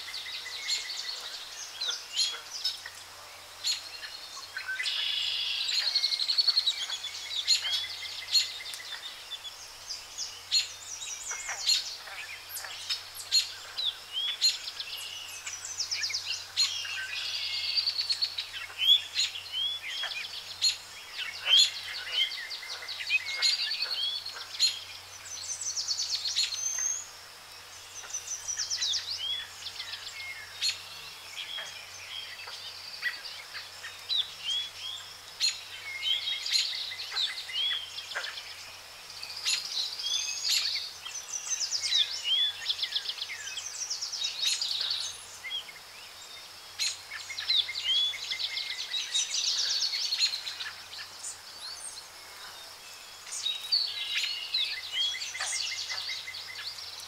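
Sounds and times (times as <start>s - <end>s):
birds chirping and trilling: 0.0s - 57.0s.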